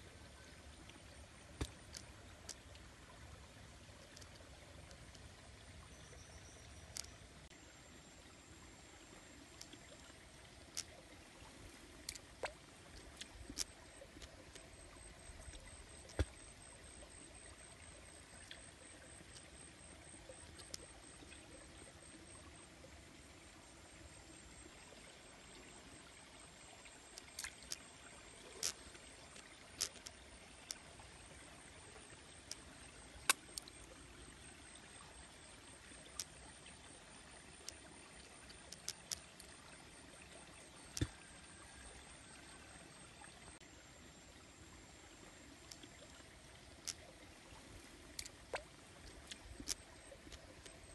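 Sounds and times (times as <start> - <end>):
sharp ticks and splashes: 0.0 - 50.9
stream trickling over rocks: 0.0 - 50.9.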